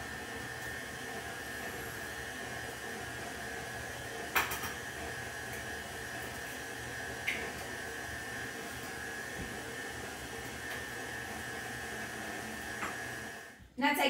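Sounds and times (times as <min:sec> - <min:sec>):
stand mixer motor whining: 0:00.0 - 0:13.6.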